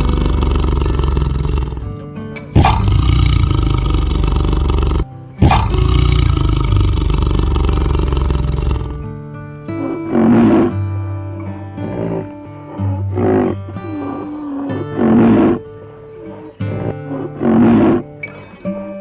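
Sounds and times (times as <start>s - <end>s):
tiger roaring: 0.0s - 2.0s, 2.6s - 18.2s
background music: 0.0s - 19.0s.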